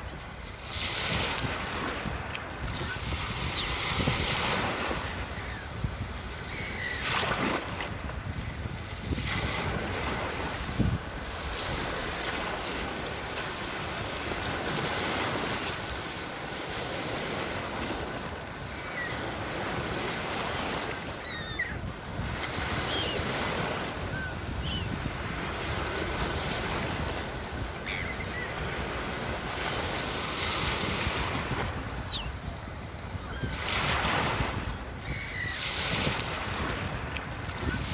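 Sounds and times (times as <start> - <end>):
sea waves washing on shore: 0.0 - 37.9.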